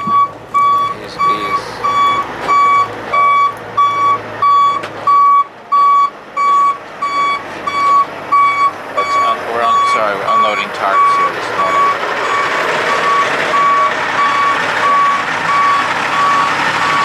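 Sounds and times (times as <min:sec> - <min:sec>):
engine running: 0:00.0 - 0:17.0
reversing alarm beeping: 0:00.0 - 0:17.0.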